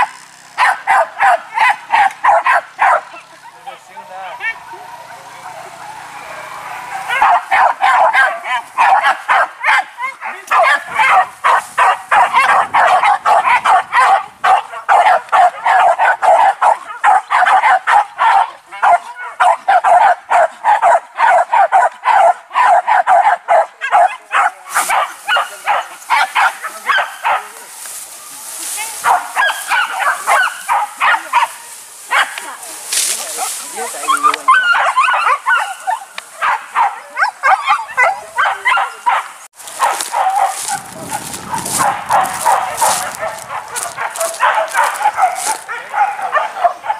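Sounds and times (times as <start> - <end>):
dogs barking and yipping: 0.0 - 46.9.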